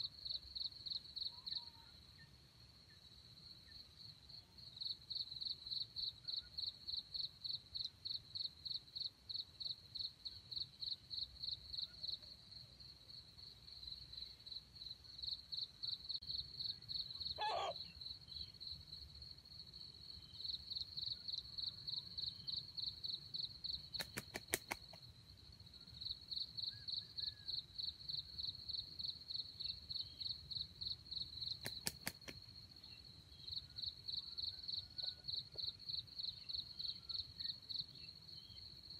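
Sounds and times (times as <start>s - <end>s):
insect chirping: 0.0s - 38.9s.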